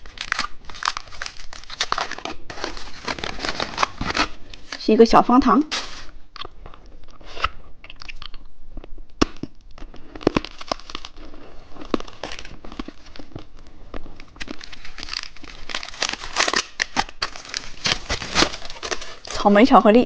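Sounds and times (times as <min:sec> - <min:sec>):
plastic wrapper crinkling: 0:00.0 - 0:06.2, 0:09.2 - 0:20.0.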